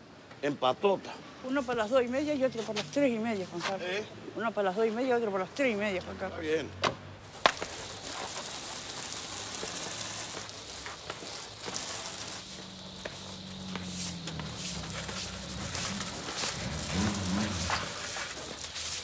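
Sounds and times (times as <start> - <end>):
street noise hiss: 0.0 - 19.0.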